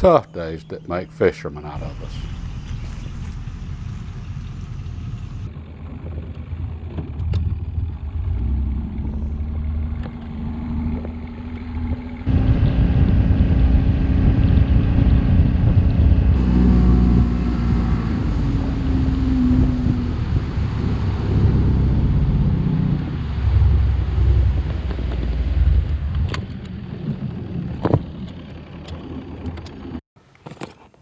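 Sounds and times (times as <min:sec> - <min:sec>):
boat motor rumbling: 0:00.0 - 0:30.0.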